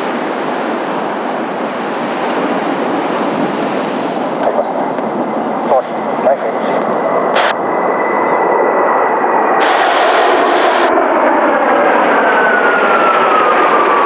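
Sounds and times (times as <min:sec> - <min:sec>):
high jet engine whine: 0:00.0 - 0:14.0
jet aircraft passing low: 0:00.0 - 0:14.0.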